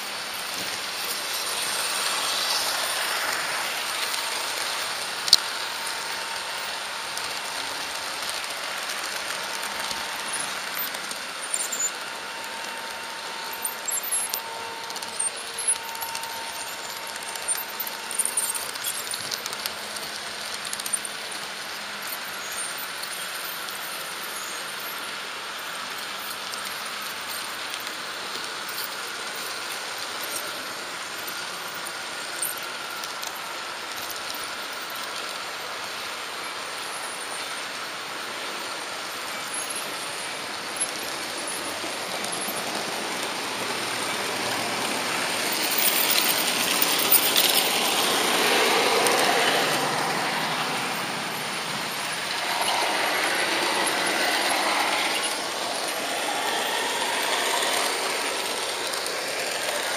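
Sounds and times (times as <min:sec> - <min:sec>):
faint motor whine: 0:00.0 - 0:59.9
model train rolling hiss: 0:00.0 - 0:59.9
model train wheels clicking: 0:00.0 - 0:59.9.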